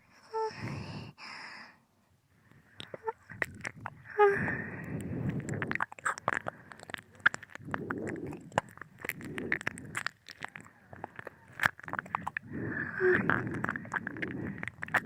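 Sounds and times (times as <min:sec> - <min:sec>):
soft breathing: 0:00.0 - 0:15.0
wet tongue and lip clicks: 0:02.8 - 0:15.0.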